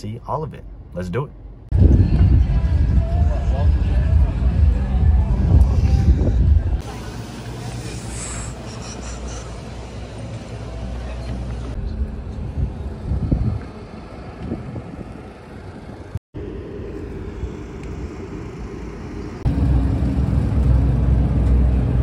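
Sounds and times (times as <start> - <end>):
stock car engines rumbling: 0.0 - 22.0.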